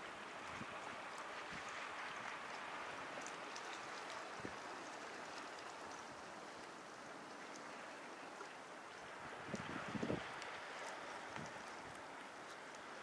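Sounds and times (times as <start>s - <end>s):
faint ticks of water: 0.0s - 13.0s
small waves washing over shore: 0.0s - 13.0s.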